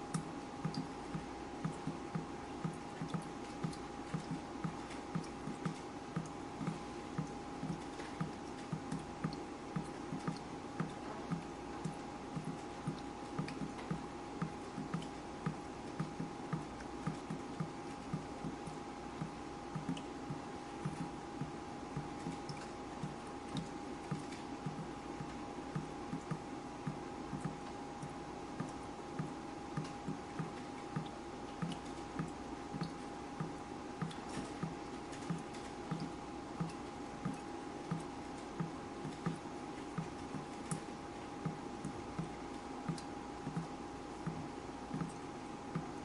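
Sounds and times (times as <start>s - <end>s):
water dripping: 0.0s - 46.0s
faint high ticks: 0.1s - 39.4s.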